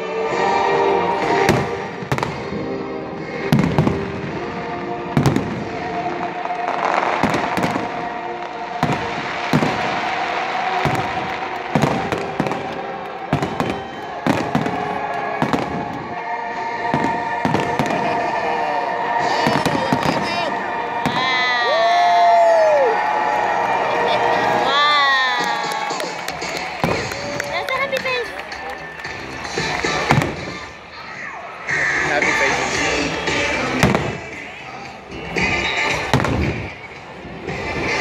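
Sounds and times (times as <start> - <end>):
music: 0.0 - 38.0
fireworks bursting: 1.1 - 31.0, 32.2 - 38.0.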